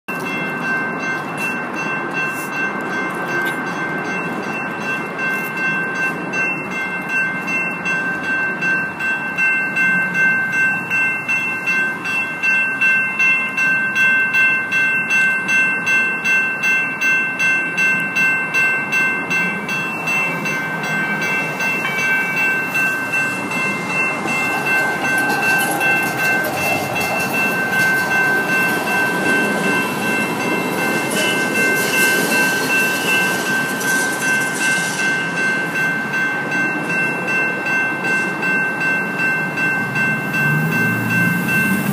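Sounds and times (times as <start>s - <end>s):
light rail train rolling: 0.1s - 41.9s
railroad crossing bells ringing: 0.1s - 41.9s.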